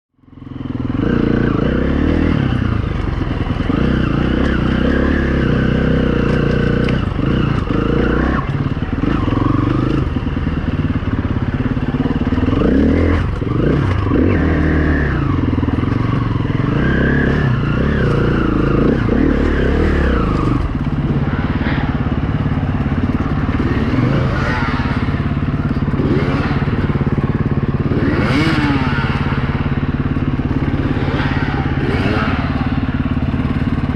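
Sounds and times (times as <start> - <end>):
dirt bike engine revving: 0.4 - 33.9.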